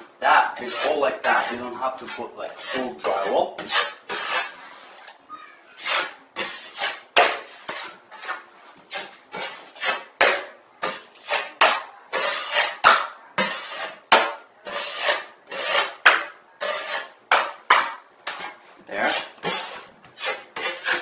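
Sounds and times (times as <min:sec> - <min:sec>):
putty knife scraping plaster: 0:00.5 - 0:05.2, 0:05.8 - 0:21.0.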